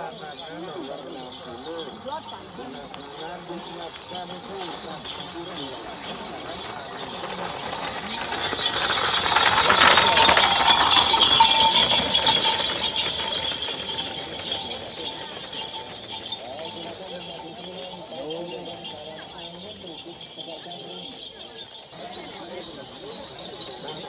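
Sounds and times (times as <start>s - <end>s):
clatter of hooves and cart: 0.0s - 24.0s
ringing jingle: 0.0s - 24.0s.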